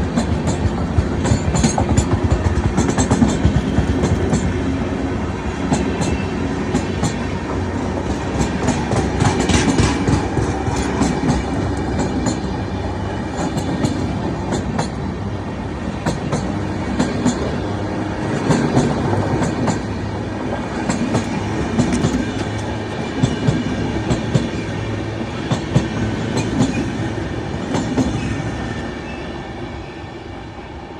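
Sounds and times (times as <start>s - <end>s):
wheels clicking over rail joints: 0.0s - 4.8s, 5.6s - 24.8s, 25.4s - 28.3s
train rumbling on track: 0.0s - 30.9s.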